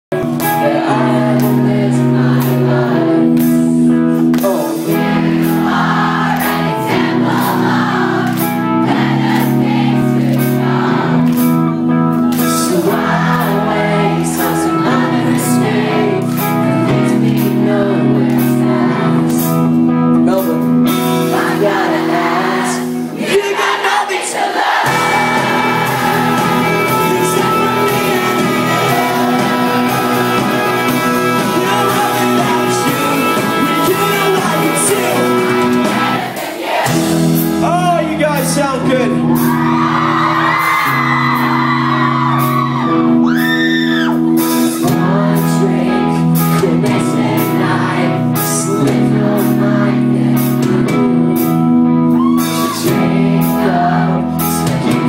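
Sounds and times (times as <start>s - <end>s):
bass: 0.0s - 23.2s, 24.9s - 36.3s, 36.9s - 55.0s
distorted guitars: 0.1s - 23.4s, 24.8s - 55.0s
drums: 0.1s - 55.0s
lead vocals: 0.1s - 55.0s.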